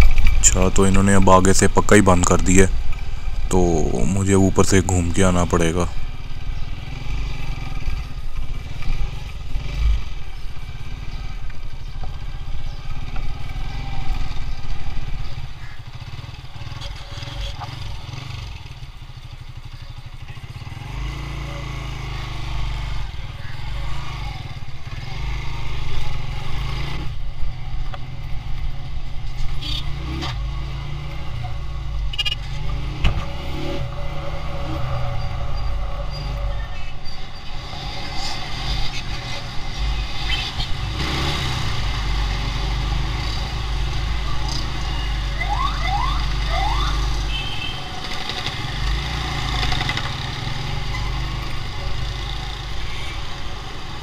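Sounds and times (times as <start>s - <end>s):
small motorcycle engine running: 5.4s - 54.0s.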